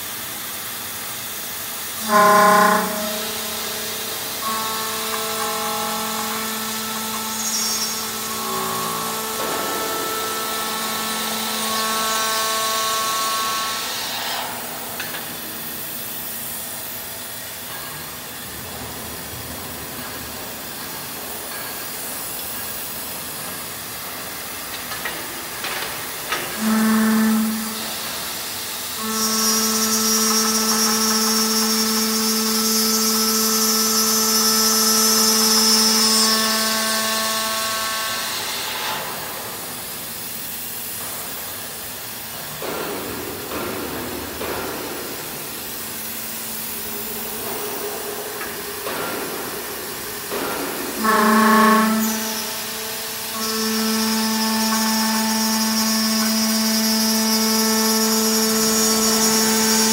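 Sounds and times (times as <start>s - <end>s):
spindle motor whine: 0.3s - 41.0s, 44.3s - 59.9s.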